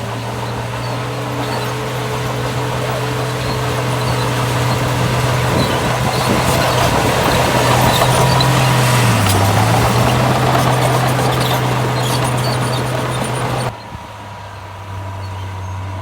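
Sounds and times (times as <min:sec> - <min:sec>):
diesel machine engine droning: 0:00.0 - 0:16.0.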